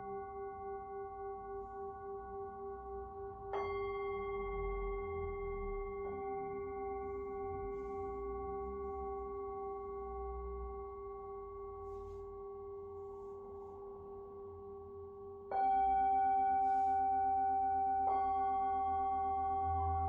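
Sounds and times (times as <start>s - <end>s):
singing bowls ringing: 0.0s - 20.0s.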